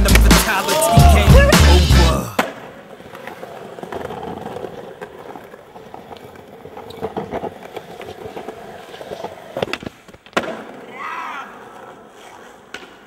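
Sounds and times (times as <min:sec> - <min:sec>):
skateboard wheels rumbling: 0:02.4 - 0:13.0.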